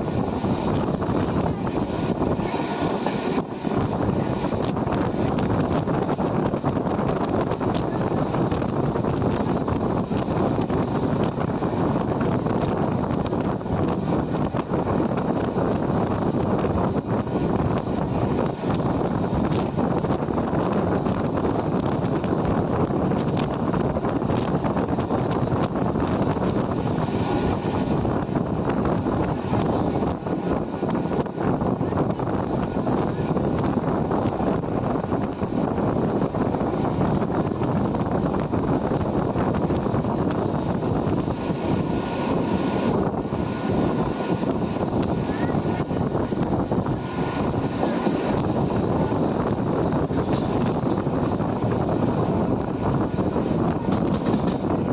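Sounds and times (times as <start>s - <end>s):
passing train roar: 0.0s - 54.9s
wind buffeting microphone: 0.0s - 54.9s.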